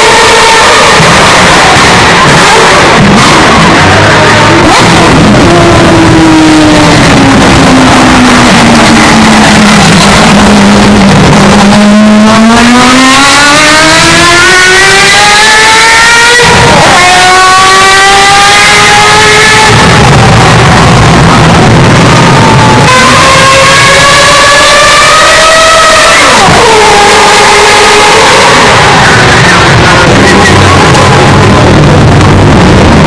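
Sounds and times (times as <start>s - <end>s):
race car engine distorted: 0.0s - 33.0s.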